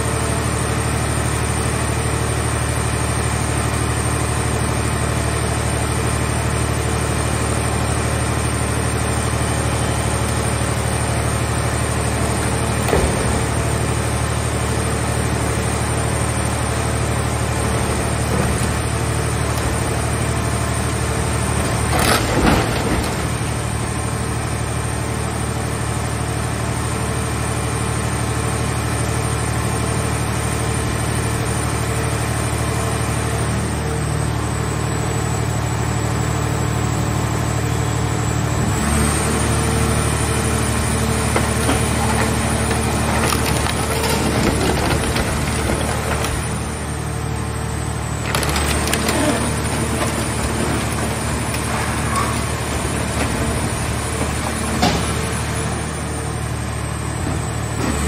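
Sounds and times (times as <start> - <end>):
hydraulic power unit droning: 0.0 - 58.0.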